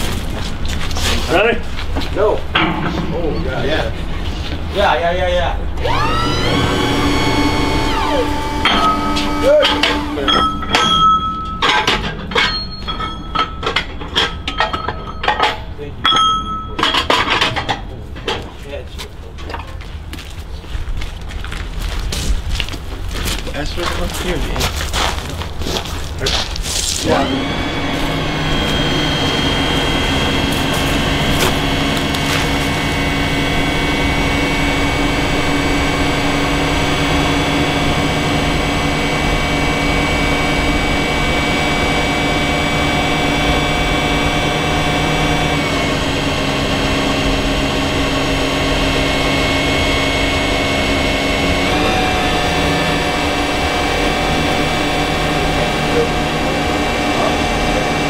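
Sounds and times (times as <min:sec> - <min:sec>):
machinery humming: 0:00.0 - 0:18.3, 0:26.0 - 0:58.0.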